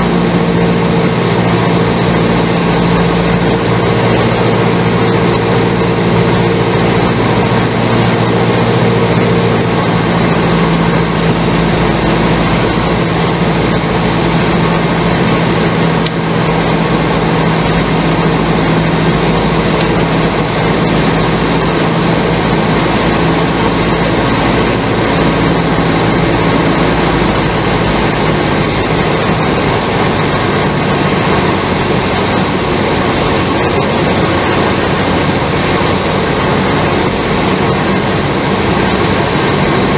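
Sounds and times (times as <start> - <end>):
loud wind noise: 0.0 - 39.9
propeller engine drone: 0.0 - 39.9.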